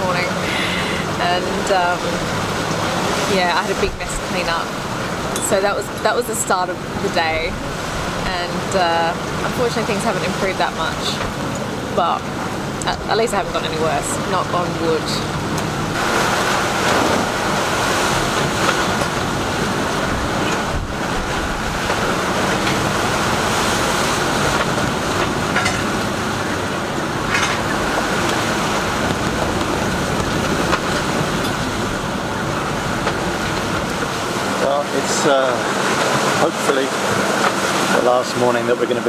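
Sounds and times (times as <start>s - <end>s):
wind buffeting microphone: 0.0s - 38.0s
choppy sea: 0.0s - 39.0s.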